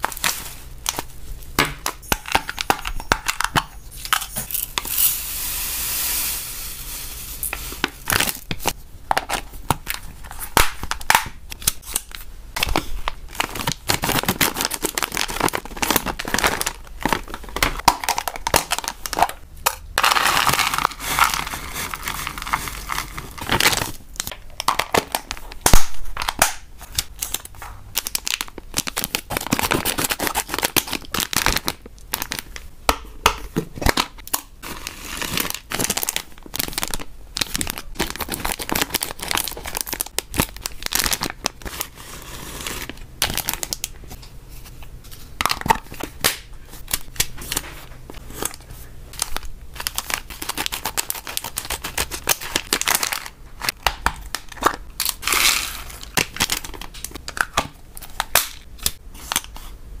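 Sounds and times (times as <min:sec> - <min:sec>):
plastic packaging crinkling and tearing: 0:07.1 - 0:32.6, 0:33.8 - 0:59.7.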